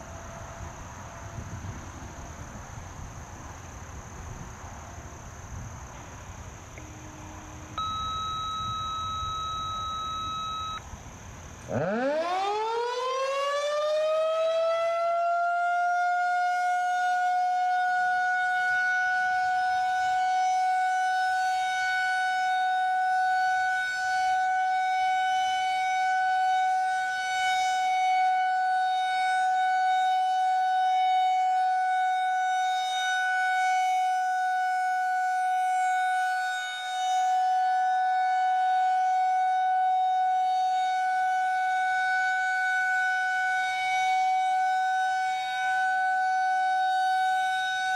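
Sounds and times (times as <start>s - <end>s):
outdoor warning siren: 0.0s - 47.9s.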